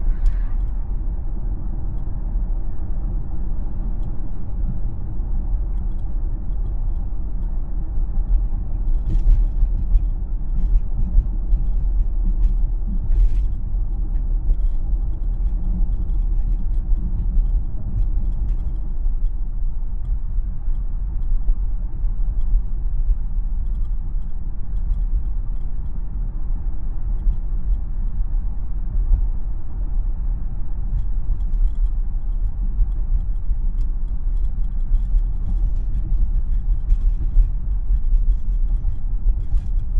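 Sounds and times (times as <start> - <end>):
road and tyre noise in car: 0.0 - 39.9.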